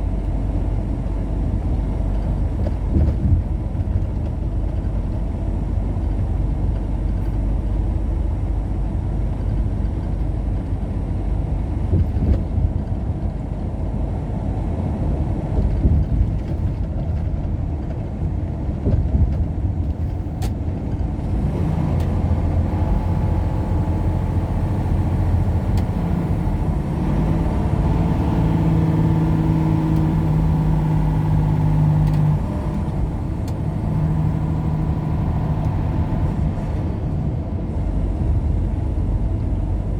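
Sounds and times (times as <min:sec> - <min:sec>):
engine hum: 0:00.0 - 0:39.9
road and engine rumble: 0:00.0 - 0:39.9.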